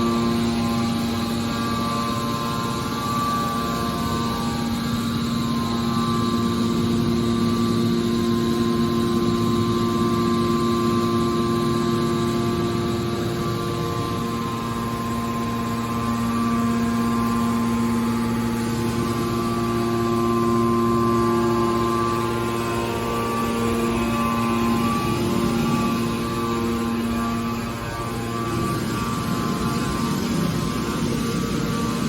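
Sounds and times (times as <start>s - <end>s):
wire baler motor humming: 0.0s - 32.0s.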